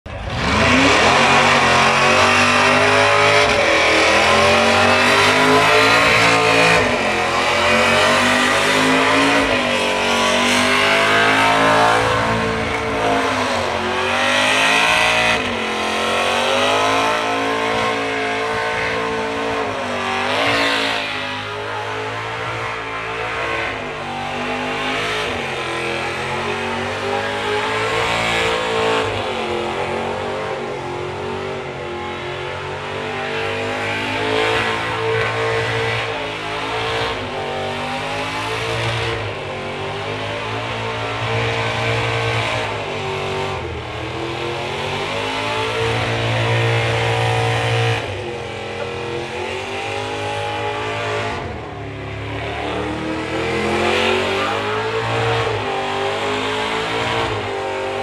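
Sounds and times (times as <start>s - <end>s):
car engine revving hard: 0.1s - 58.0s.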